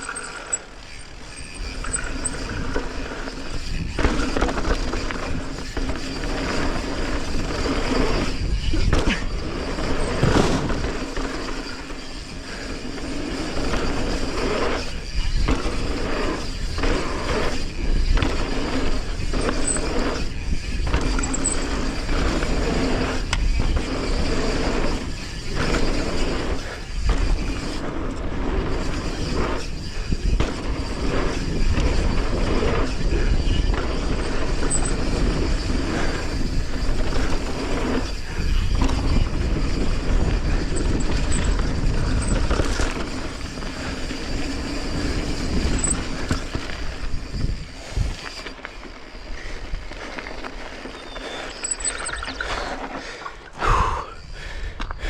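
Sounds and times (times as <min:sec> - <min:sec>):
bike chain and frame rattling: 0:00.0 - 0:54.6
bike tyres on dirt: 0:00.0 - 0:55.0
wind buffeting microphone: 0:00.9 - 0:48.4.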